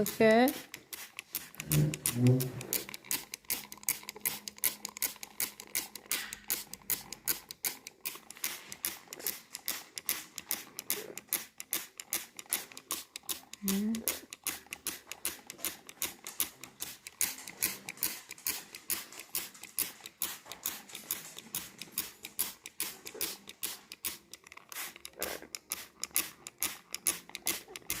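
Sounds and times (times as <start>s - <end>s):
spray bottle squirts: 0.0s - 28.0s.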